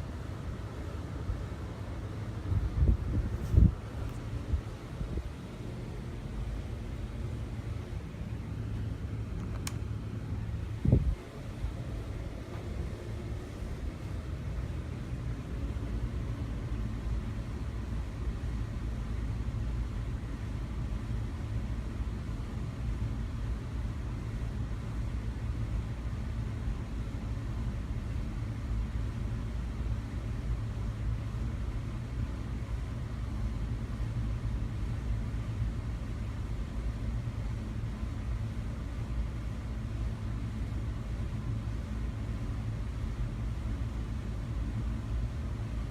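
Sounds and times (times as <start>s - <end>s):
ceiling fan running: 0.0s - 45.9s.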